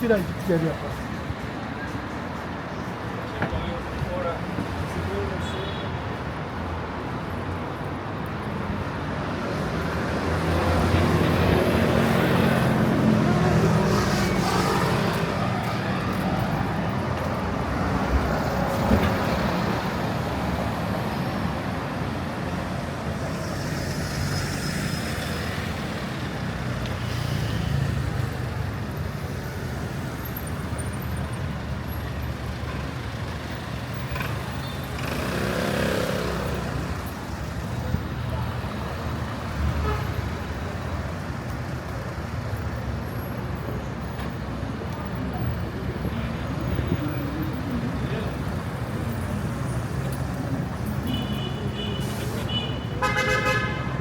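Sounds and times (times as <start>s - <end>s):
street traffic passing: 0.0s - 54.0s.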